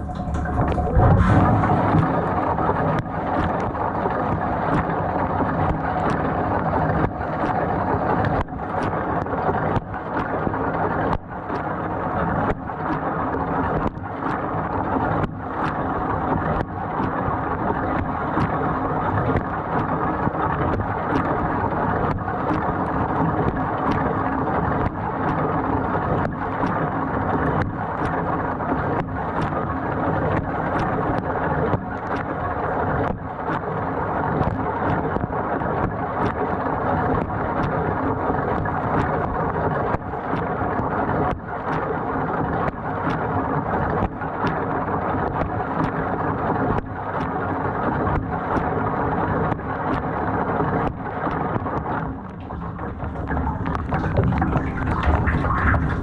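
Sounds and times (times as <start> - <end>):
water ticking on racks: 0.0 - 50.2, 50.8 - 56.0.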